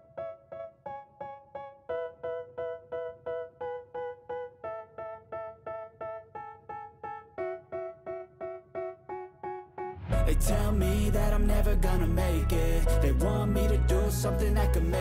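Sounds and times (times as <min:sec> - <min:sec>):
repeated piano chords: 0:00.0 - 0:15.0.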